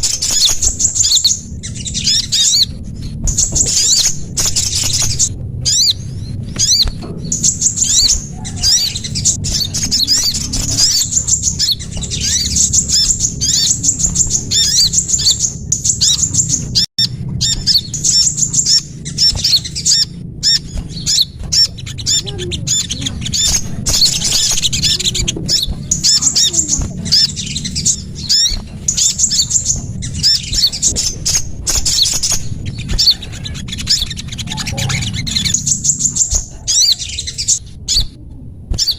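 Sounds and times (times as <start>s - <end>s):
songbirds chirping: 0.0s - 38.9s
steady low rumble: 0.0s - 38.9s.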